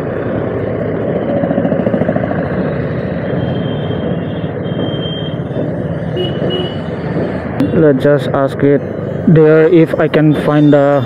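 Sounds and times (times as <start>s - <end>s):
road and traffic noise: 0.0s - 11.0s.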